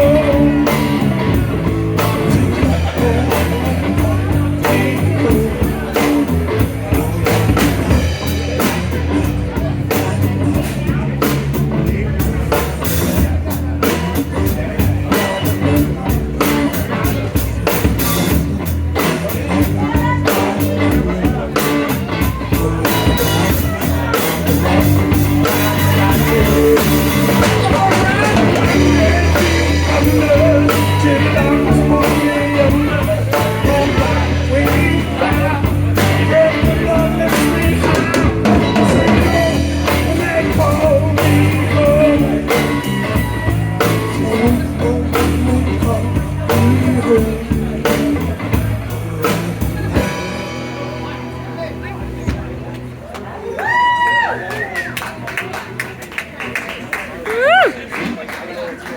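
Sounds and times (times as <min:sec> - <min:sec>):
rock band playing loudly: 0:00.0 - 0:58.2.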